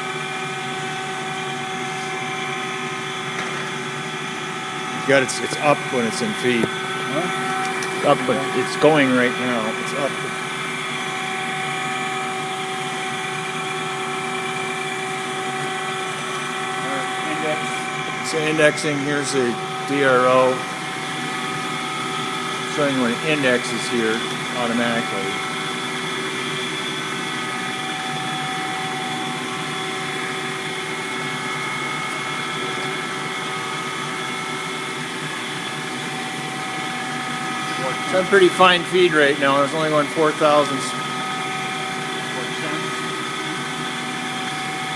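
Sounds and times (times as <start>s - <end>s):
even machine hum: 0.0s - 44.9s
grinding machine whine: 0.0s - 44.9s.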